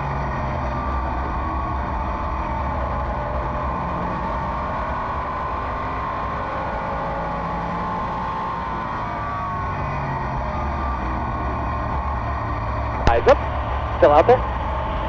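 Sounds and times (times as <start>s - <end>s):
race car engine droning: 0.0s - 15.0s.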